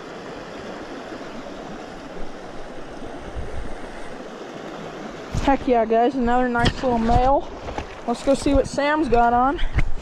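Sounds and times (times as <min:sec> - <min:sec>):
creek flowing over rocks: 0:00.0 - 0:10.0.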